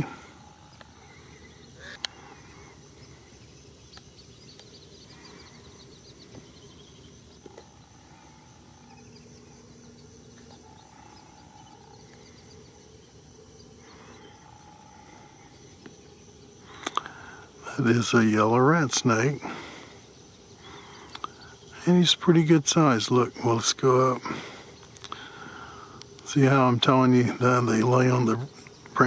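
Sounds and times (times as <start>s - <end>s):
distant bird calls: 0.0s - 29.0s
steady hiss: 0.0s - 29.0s.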